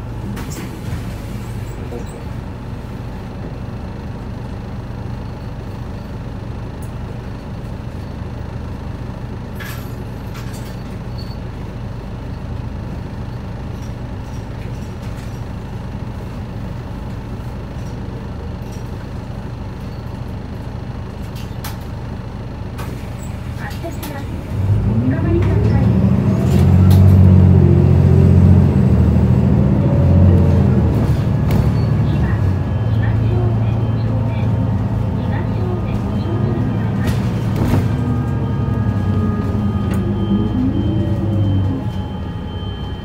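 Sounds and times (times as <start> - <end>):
bus diesel engine idling: 0.0 - 43.0.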